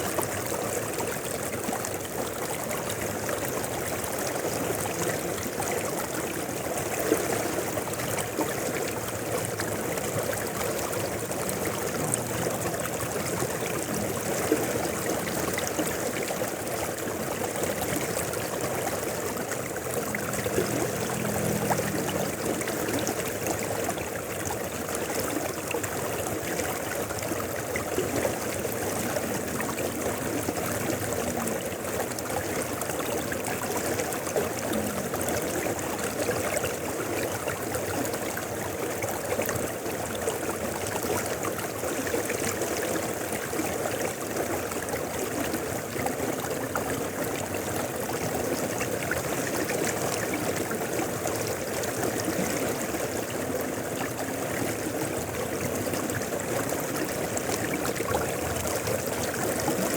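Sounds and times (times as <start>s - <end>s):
river rushing with splashes: 0.0s - 59.9s.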